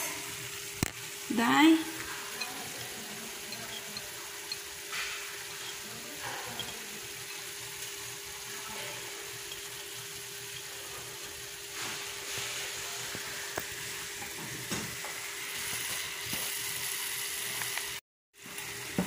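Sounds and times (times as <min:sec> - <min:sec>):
meat sizzling in a frying pan: 0:00.0 - 0:19.0.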